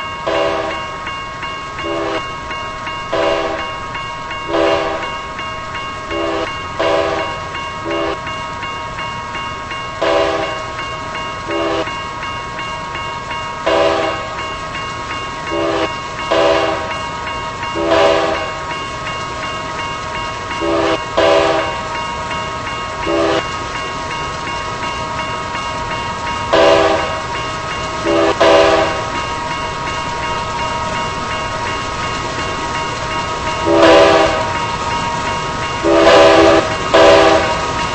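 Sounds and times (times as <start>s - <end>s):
freight train rolling past: 0.0s - 37.9s.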